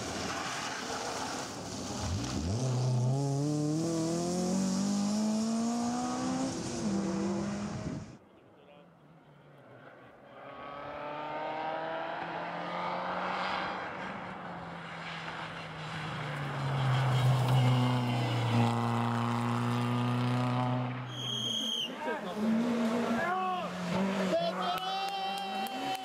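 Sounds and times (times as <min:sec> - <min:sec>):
rally car engine passing: 0:00.0 - 0:08.2, 0:09.0 - 0:21.2, 0:21.9 - 0:26.0.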